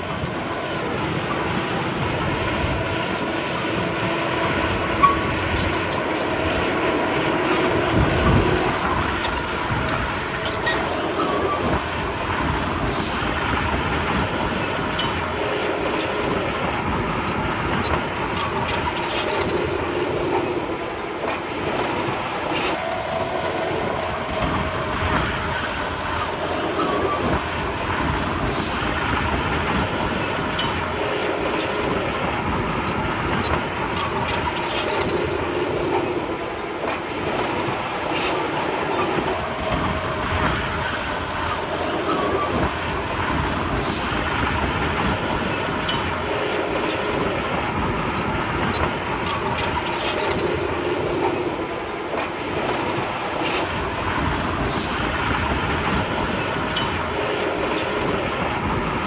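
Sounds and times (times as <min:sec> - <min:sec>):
bulldozer diesel engine running: 0:00.0 - 0:59.0
steel tracks clanking and squeaking: 0:00.0 - 0:59.0.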